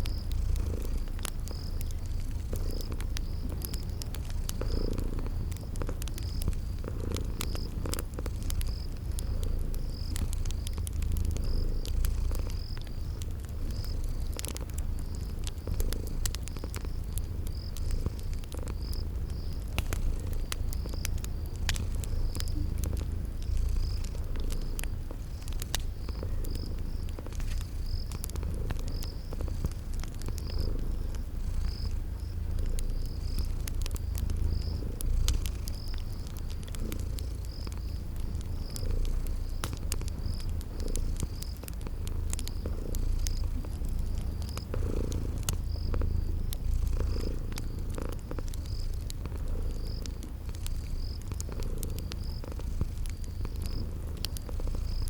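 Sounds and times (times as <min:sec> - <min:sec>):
cat purring: 0:00.0 - 0:55.0
cricket chirping: 0:00.0 - 0:55.0
wood fire crackling: 0:00.0 - 0:55.0.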